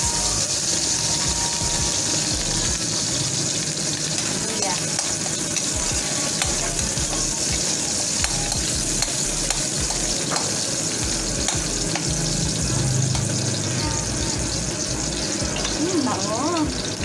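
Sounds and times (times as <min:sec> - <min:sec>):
aromatics sizzling in oil: 0:00.0 - 0:17.0.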